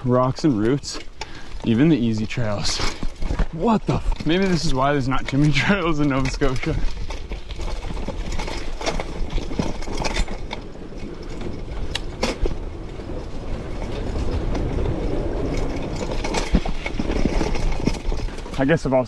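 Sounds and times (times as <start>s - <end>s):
mountain bike rattling over rocks: 0.0s - 19.0s.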